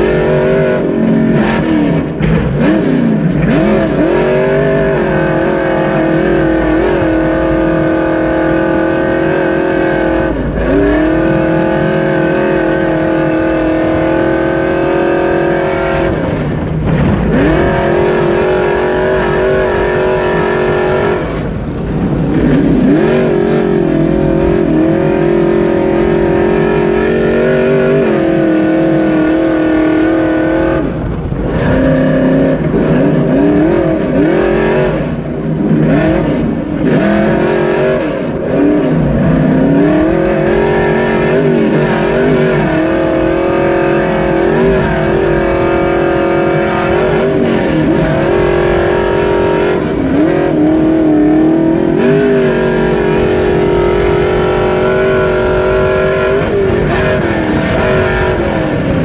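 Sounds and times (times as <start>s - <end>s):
truck engine revving hard: 0.0s - 59.0s.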